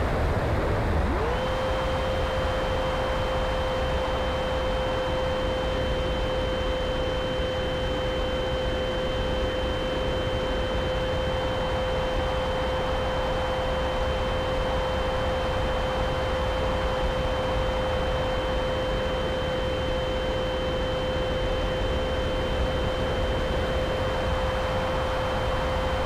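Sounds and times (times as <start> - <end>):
model airplane motor whine: 0.9 - 26.0.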